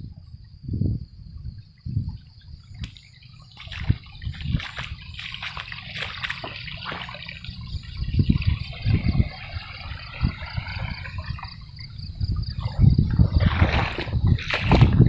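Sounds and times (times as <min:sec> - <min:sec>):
stormwater rushing down a stream: 0:02.5 - 0:15.0.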